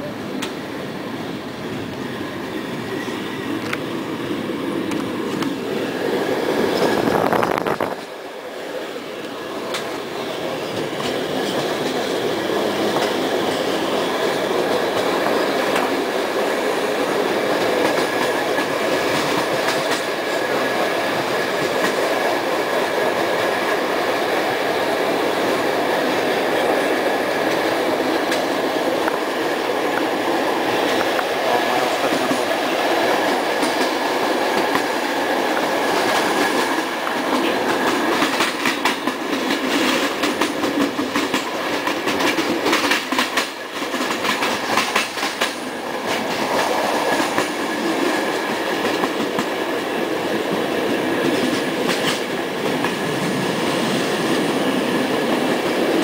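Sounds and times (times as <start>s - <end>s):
train wheels rumbling on rail: 0.0s - 56.0s
wheels clickety-clack over rail joints: 2.6s - 4.0s, 4.7s - 8.2s, 8.8s - 56.0s.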